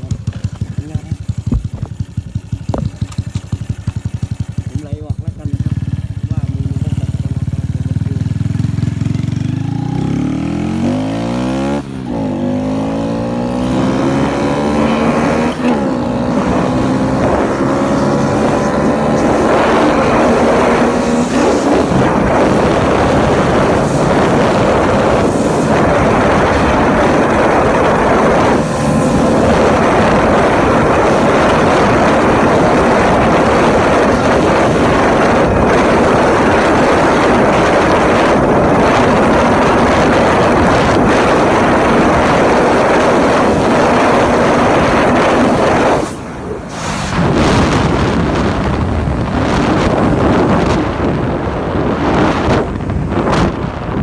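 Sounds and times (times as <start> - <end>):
wind noise on microphone: 0.0 - 4.6, 5.9 - 54.0
motorcycle engine accelerating: 0.0 - 54.0.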